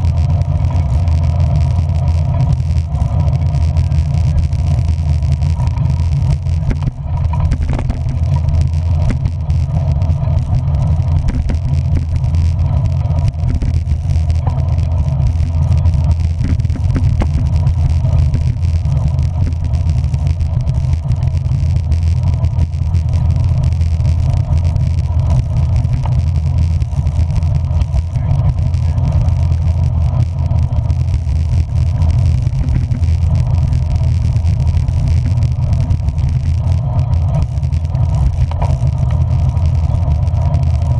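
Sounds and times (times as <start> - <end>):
road noise: 0.0 - 40.9
vehicle engine rumble: 0.0 - 40.9.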